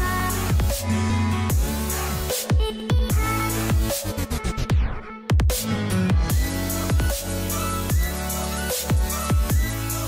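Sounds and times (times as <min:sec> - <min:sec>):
electronic dance music: 0:00.0 - 0:10.0
heavy bass: 0:00.0 - 0:10.0.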